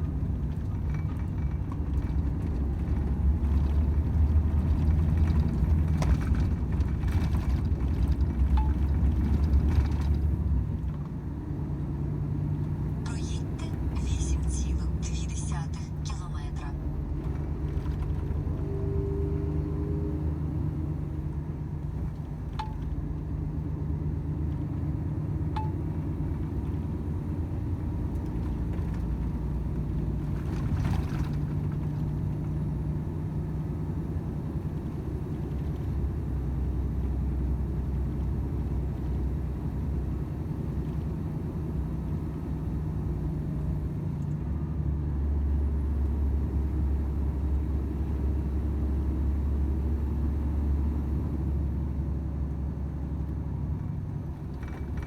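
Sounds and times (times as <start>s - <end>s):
road noise: 0.0s - 55.0s
truck diesel engine droning: 0.0s - 55.0s.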